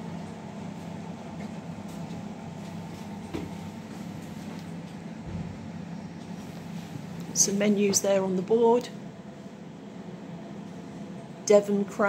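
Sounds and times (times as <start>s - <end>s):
refrigerated cabinets humming: 0.0s - 12.0s.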